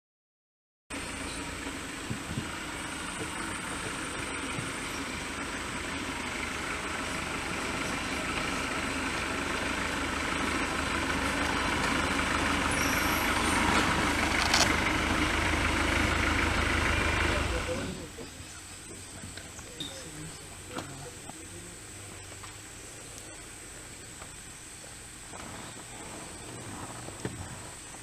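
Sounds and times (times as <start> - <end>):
vehicle engine idling: 0.9 - 28.0.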